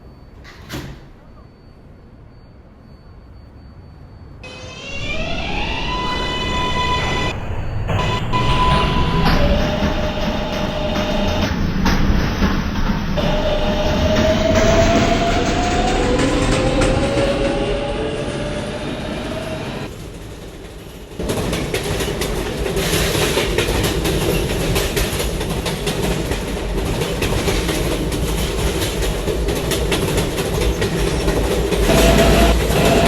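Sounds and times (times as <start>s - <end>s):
train wheels on track: 0.0s - 33.0s.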